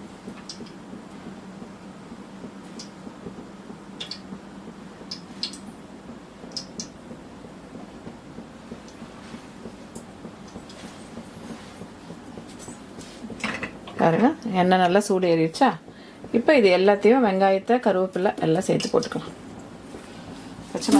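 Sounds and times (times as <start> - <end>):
oil heating with low hum: 0.0 - 20.9
oil ticks and crackles: 0.1 - 20.9.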